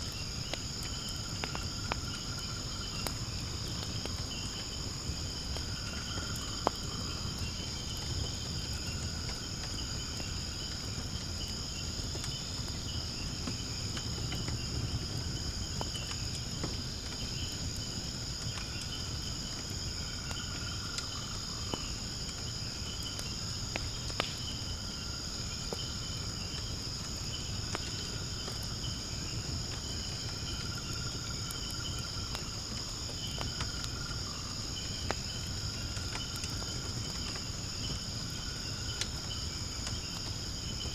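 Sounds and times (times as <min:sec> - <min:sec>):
burning wood crackling pops: 0:00.0 - 0:40.9
insects chorus: 0:00.0 - 0:40.9.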